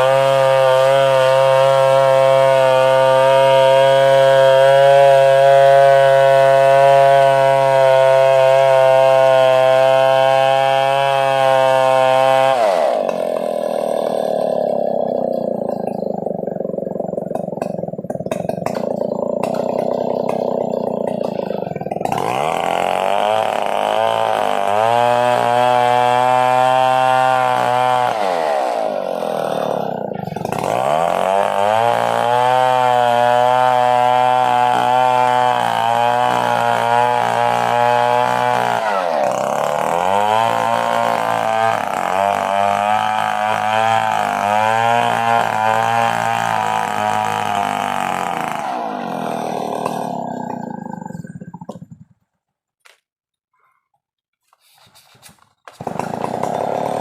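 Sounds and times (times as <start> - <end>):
chainsaw engine revving: 0.0 - 52.3, 55.6 - 57.0.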